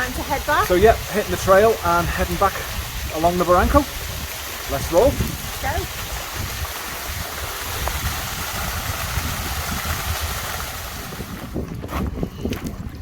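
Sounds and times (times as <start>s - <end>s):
stream water rushing: 0.0s - 11.6s
wind buffeting microphone: 0.0s - 13.0s.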